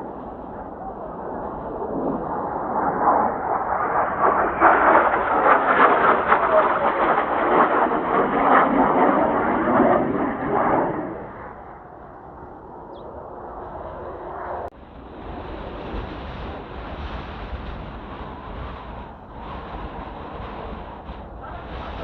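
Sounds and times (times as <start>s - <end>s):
jet aircraft passing overhead: 0.0s - 22.0s.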